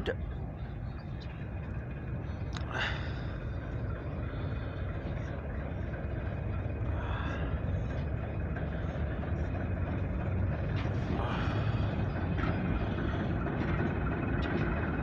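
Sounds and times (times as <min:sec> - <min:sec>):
distant locomotive diesel engine: 0:00.0 - 0:15.0.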